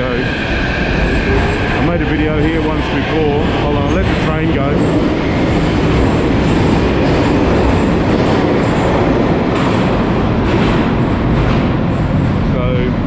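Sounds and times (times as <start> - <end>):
metro train wheels rolling: 0.0 - 13.0.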